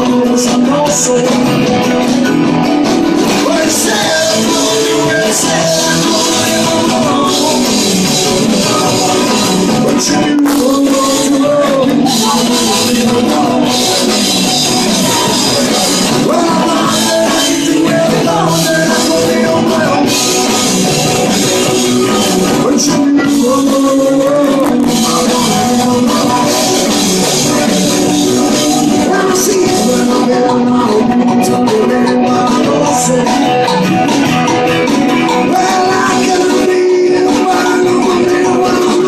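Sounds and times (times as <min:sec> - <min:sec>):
people singing into microphones: 0:00.0 - 0:01.7, 0:03.1 - 0:34.0, 0:35.2 - 0:39.0
rock band playing: 0:00.0 - 0:39.0.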